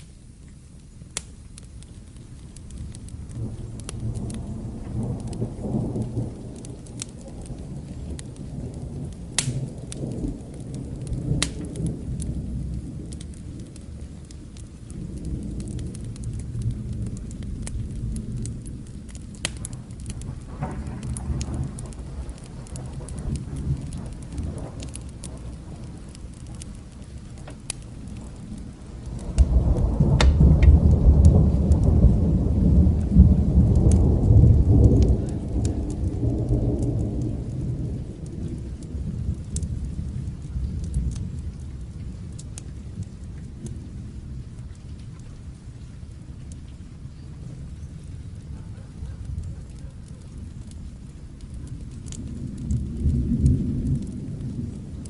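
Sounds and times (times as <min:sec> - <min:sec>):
sharp crackles: 0:00.0 - 0:55.0
steady rain: 0:00.0 - 0:55.0
thunder rumbling: 0:01.6 - 0:55.0.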